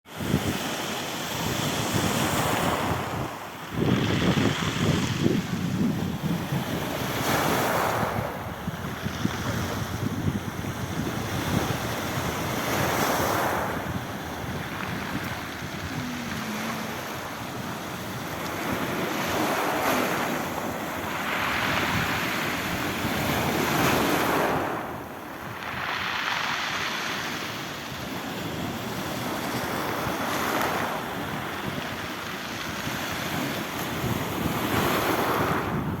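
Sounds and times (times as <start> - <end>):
waves breaking on shore: 0.1 - 36.0
wind noise on microphone: 0.1 - 36.0.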